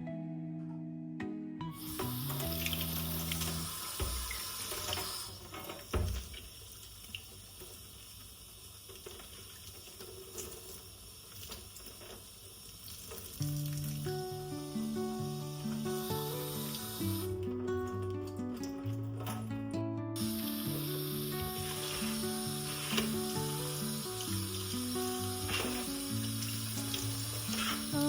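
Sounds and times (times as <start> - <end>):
tap water running into sink: 1.8 - 19.5, 20.2 - 28.0.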